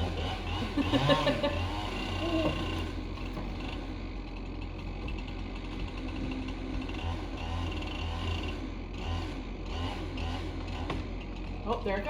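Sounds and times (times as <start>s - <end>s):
chainsaw running: 0.0s - 12.0s.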